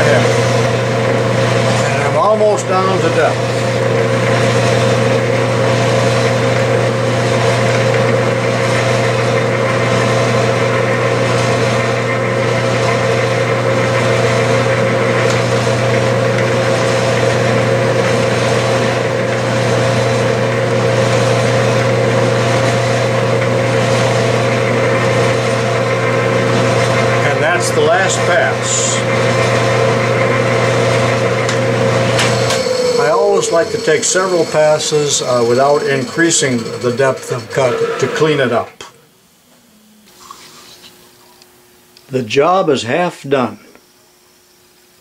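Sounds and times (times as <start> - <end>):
metal lathe humming and whining: 0.0 - 39.0.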